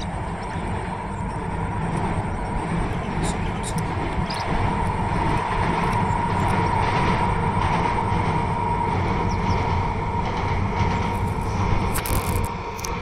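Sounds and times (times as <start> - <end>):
steady high-pitched tone: 0.0 - 13.0
train rumbling on bridge: 0.0 - 13.0.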